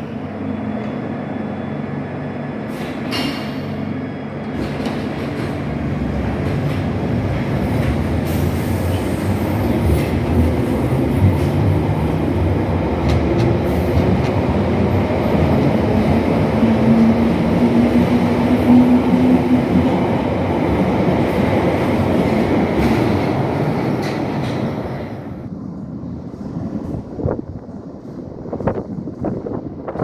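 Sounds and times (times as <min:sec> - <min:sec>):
train hum: 0:00.0 - 0:30.0
train wheels rumbling: 0:00.0 - 0:30.0.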